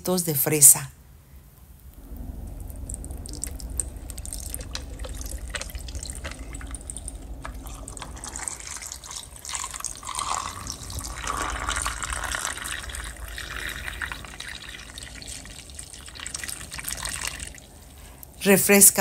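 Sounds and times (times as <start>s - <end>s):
liquid pouring over ice: 2.7s - 18.1s.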